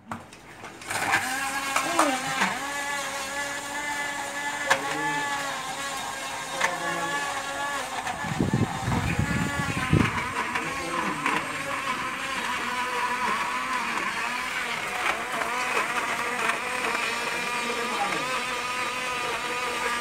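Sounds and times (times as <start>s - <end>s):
blender motor whining: 0.0s - 20.0s.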